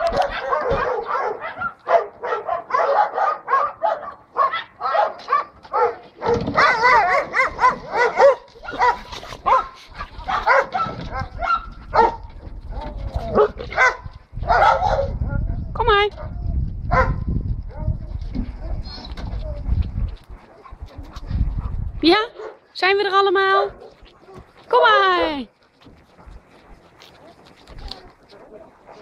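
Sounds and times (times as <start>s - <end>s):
dogs barking excitedly: 0.0s - 15.3s, 15.9s - 22.7s, 23.4s - 25.2s, 26.4s - 29.0s.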